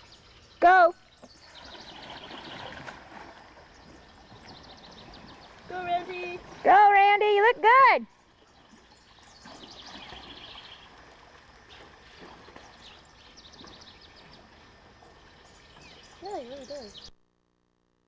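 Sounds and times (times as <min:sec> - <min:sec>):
small bird singing: 0:00.0 - 0:02.8, 0:03.6 - 0:07.4, 0:08.1 - 0:11.0, 0:11.7 - 0:17.2.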